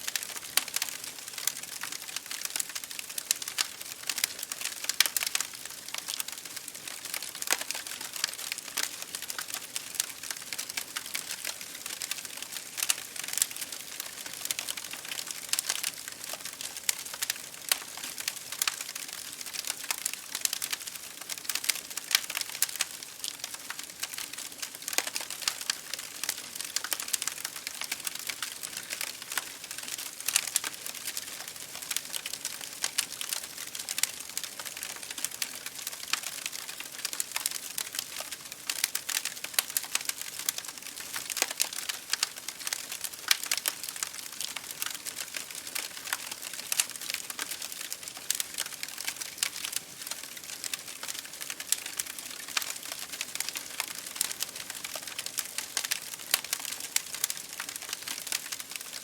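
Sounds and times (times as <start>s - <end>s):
rain against a window: 0.0s - 59.0s
wood fire crackling: 0.1s - 59.0s.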